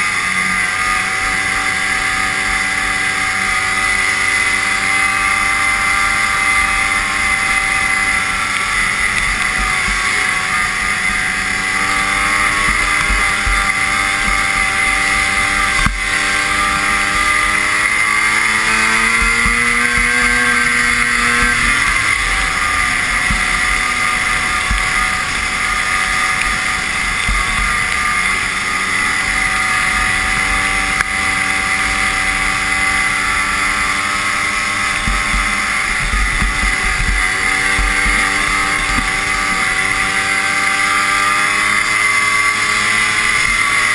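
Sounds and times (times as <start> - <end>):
snowmobile engine buzzing: 0.0 - 43.9.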